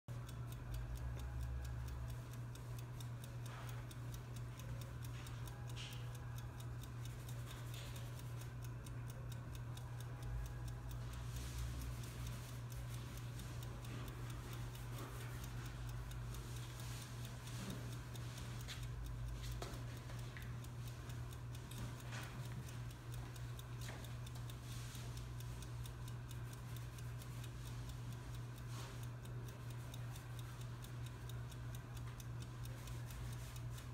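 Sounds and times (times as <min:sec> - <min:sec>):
steady rapid ticking: 0:00.1 - 0:33.9.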